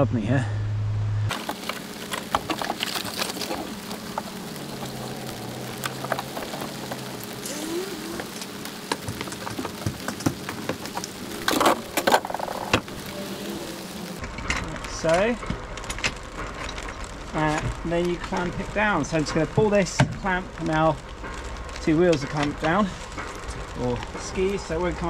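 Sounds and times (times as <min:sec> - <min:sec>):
rain pattering: 0:01.3 - 0:25.0.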